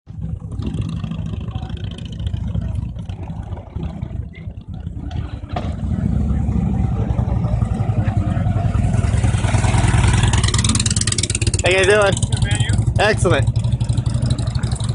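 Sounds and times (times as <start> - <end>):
motorcycle engine rumbling: 0.1 - 14.9.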